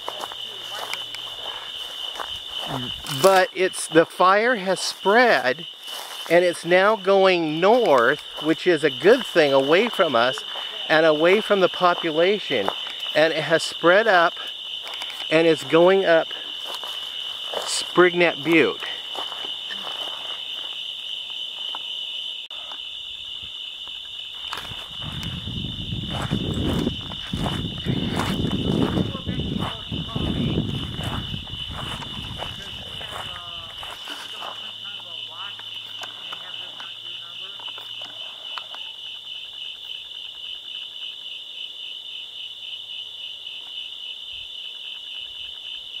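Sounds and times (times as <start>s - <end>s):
crickets trilling: 0.0s - 46.0s
rapid ticking of night insect: 0.0s - 46.0s.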